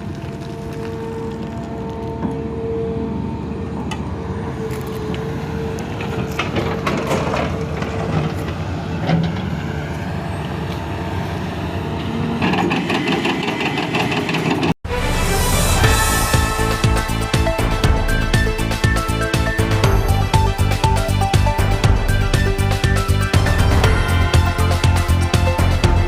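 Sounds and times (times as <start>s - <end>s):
excavator diesel engine whine: 0.0s - 26.0s.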